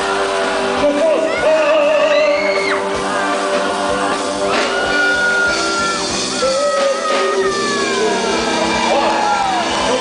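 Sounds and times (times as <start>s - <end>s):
rock and roll band playing: 0.0s - 10.0s.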